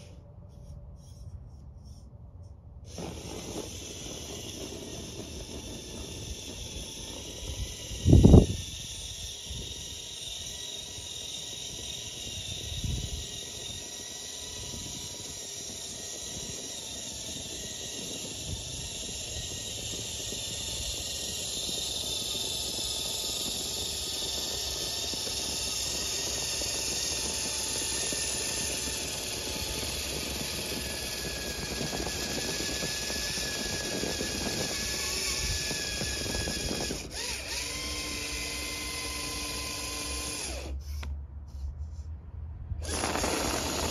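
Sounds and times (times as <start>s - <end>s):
toy truck electric motors whining: 0.0s - 2.1s, 2.8s - 42.1s, 42.8s - 43.9s.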